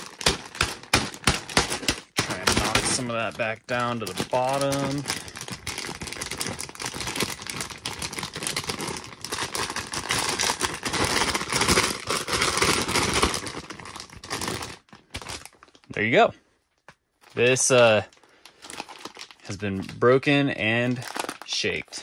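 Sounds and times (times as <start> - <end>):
plastic bag crinkling: 0.0 - 16.2, 17.2 - 22.0.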